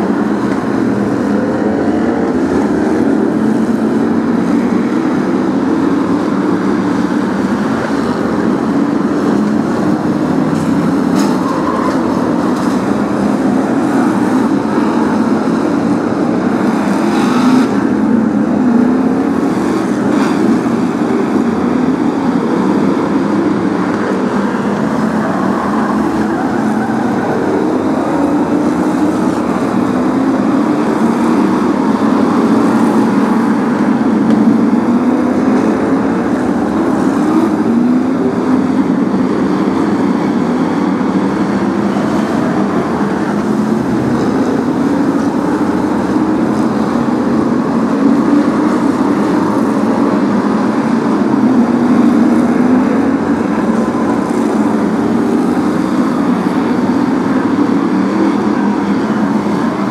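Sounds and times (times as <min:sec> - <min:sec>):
racing car engines roaring: 0:00.0 - 0:59.9.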